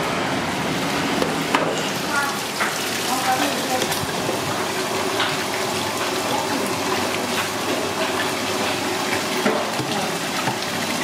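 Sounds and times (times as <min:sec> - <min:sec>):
tap water pouring into basin: 0:00.8 - 0:11.0.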